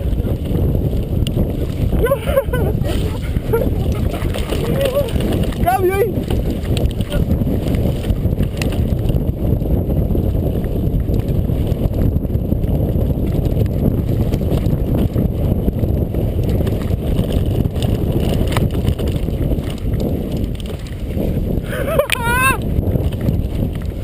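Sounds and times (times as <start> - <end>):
bike tyres rolling on dirt: 0.0 - 24.0
wind buffeting microphone: 0.0 - 24.0.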